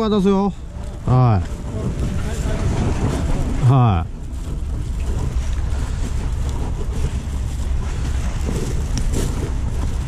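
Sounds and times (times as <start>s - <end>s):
sea washing against the shore: 0.0s - 10.0s
wind buffeting the microphone: 0.0s - 10.0s.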